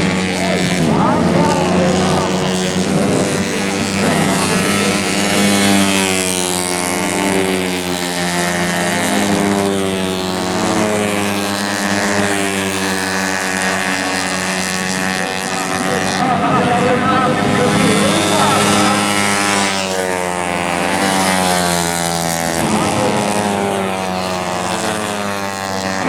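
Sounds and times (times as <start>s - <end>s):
scooter engines revving: 0.0s - 26.0s.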